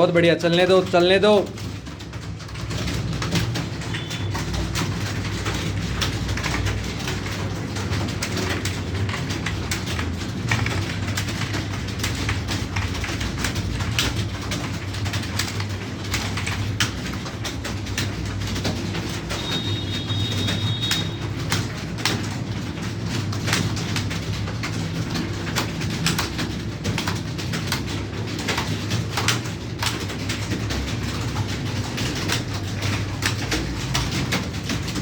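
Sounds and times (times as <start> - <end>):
keyboard keys clicking: 0.0 - 35.0.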